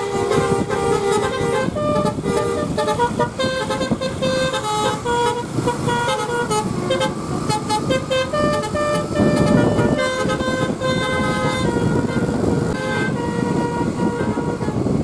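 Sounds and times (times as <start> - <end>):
musical bus horn tune: 0.0 - 15.0
road traffic noise: 0.0 - 15.0.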